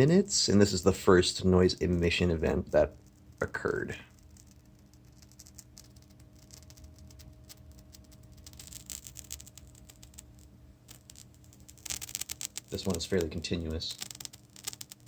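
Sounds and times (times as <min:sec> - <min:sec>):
speaker crackling: 0:00.0 - 0:15.0.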